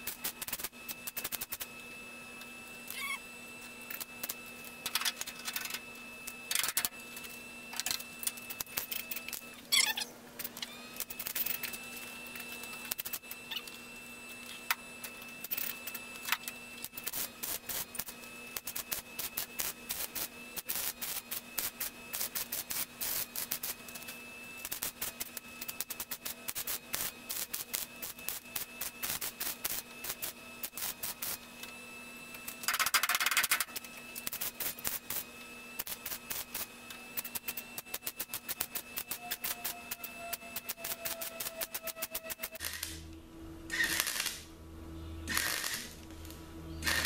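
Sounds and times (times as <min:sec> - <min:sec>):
welder arc zaps: 0:00.0 - 0:01.8, 0:02.6 - 0:43.1, 0:43.7 - 0:44.5, 0:45.3 - 0:47.0
faint steady hum: 0:00.0 - 0:47.0.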